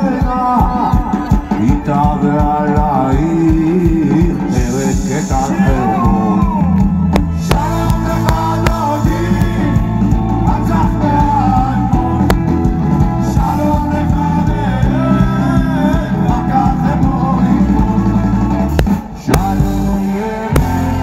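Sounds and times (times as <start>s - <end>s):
live rock band: 0.0s - 21.0s
person singing: 0.0s - 21.0s.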